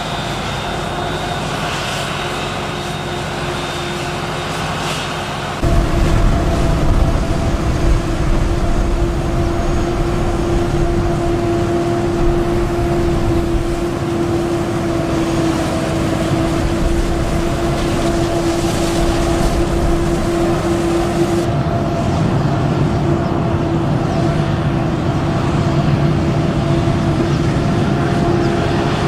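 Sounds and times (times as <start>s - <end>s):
constant machine hum: 0.0s - 29.0s
deep engine rumble: 5.5s - 29.0s.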